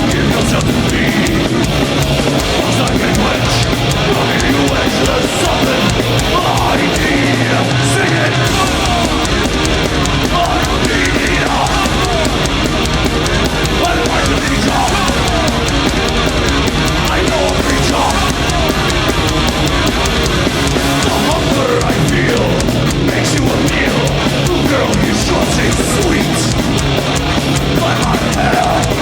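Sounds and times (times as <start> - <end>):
metal band playing live: 0.0 - 29.0.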